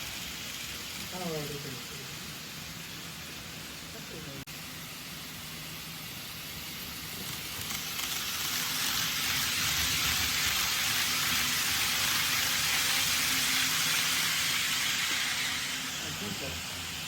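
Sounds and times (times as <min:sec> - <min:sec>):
model train wheels on track: 0:00.0 - 0:17.0.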